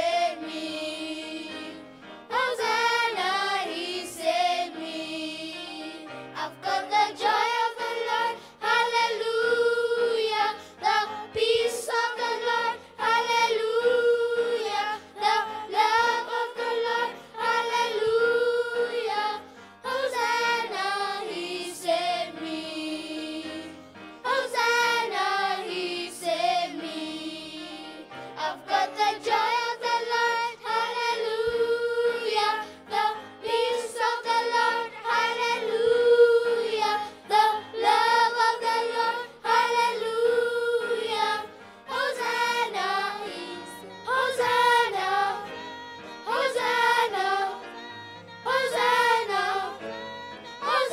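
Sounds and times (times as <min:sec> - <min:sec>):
children singing gospel song: 0:00.0 - 0:50.9.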